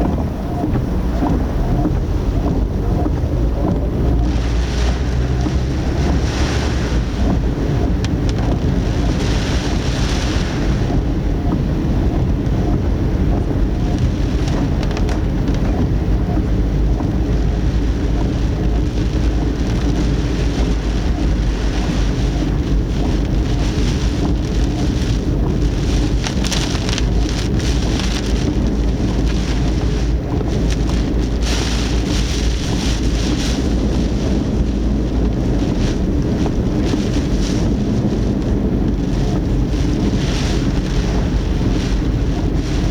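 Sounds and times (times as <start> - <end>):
heavy rain on car: 0.0 - 42.9
low wind rumble: 0.0 - 42.9.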